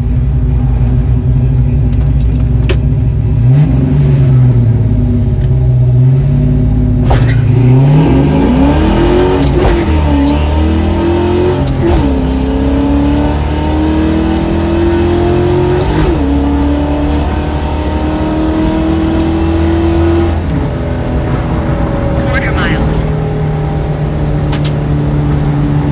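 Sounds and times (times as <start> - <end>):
car engine accelerating through gears: 1.8 - 25.9.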